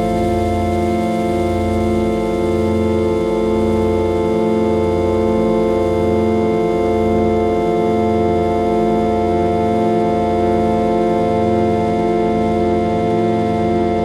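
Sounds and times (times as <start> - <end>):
organ-like drone chord: 0.0 - 14.0
slow bass throb: 0.0 - 14.0.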